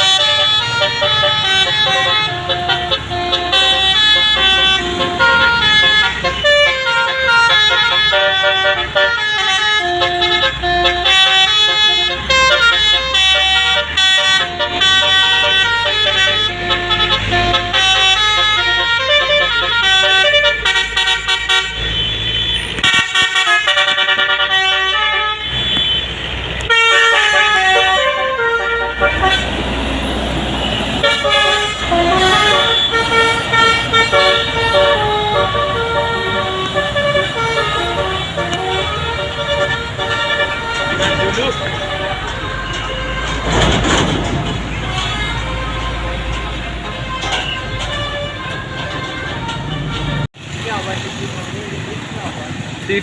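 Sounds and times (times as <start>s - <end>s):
musical bus air horn melody: 0.0s - 50.4s
bus engine passing: 0.0s - 53.0s
road noise: 0.0s - 53.0s.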